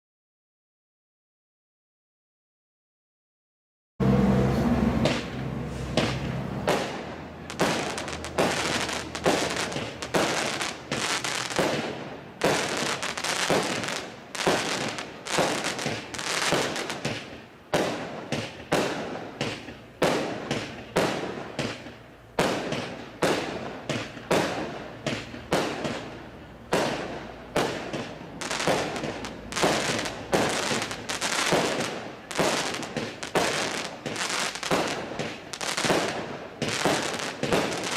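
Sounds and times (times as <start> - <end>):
fireworks cake firing bangs: 5.0 - 37.9.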